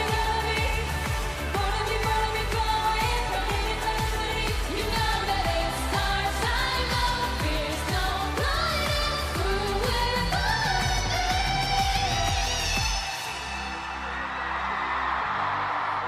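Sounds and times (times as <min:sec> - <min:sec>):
women singing pop song: 0:00.0 - 0:14.2.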